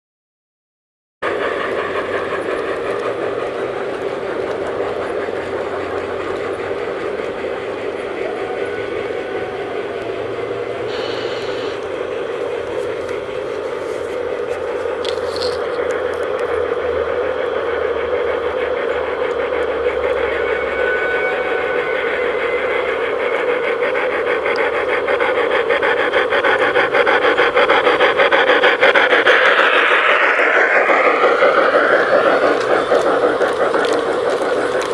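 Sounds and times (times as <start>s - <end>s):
model train wheels rattling on rails: 1.2s - 34.9s.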